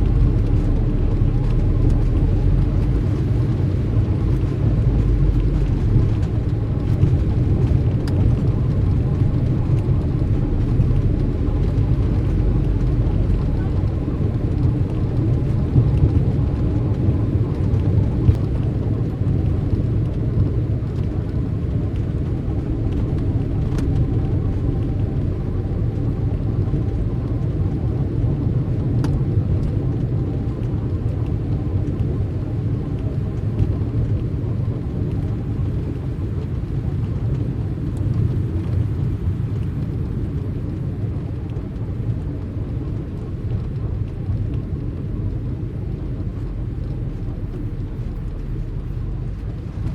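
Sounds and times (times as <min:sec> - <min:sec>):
car driving: 0:00.0 - 0:49.9.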